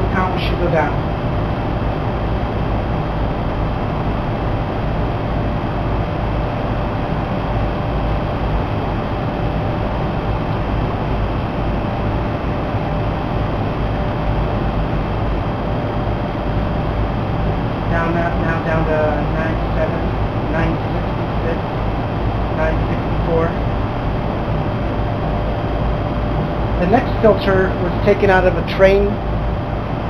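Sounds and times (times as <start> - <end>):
blower rushing air: 0.0 - 30.0
faint steady hum: 0.0 - 30.0.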